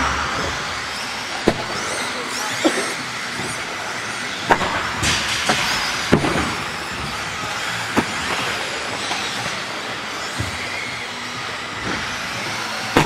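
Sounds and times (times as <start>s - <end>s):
rc car motors whining: 0.0s - 13.0s
tyres and motors hissing: 0.0s - 13.0s.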